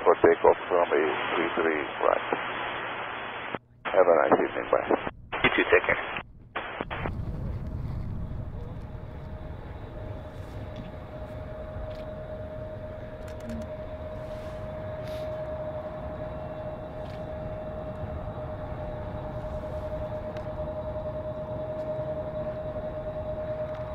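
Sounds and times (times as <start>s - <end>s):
jet engines rumbling and whining: 0.0s - 23.9s.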